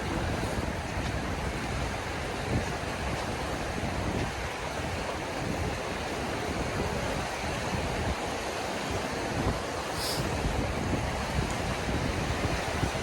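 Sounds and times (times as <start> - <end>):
small waterfalls rushing: 0.0 - 13.0
wind rumbling on microphone: 0.0 - 13.0.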